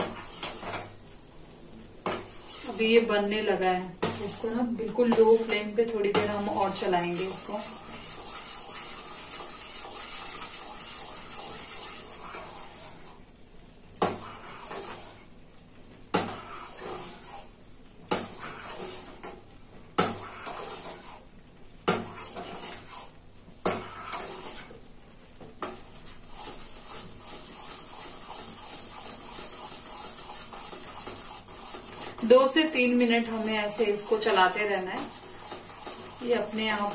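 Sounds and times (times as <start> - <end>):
spoon stirring in a steel pan: 0.0 - 1.1, 2.0 - 13.2, 14.0 - 15.3, 16.1 - 17.5, 18.1 - 24.8, 25.5 - 36.9.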